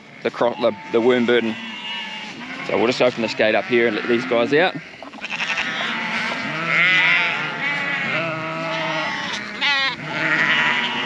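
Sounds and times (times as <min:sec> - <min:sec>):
sheep and lambs bleating: 0:00.0 - 0:11.0.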